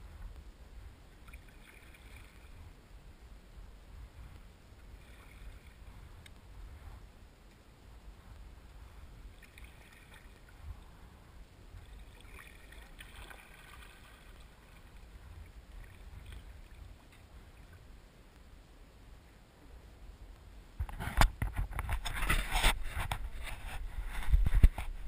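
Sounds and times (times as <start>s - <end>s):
water lapping around kayak: 0.0s - 25.0s
wind rumble on microphone: 0.0s - 25.0s.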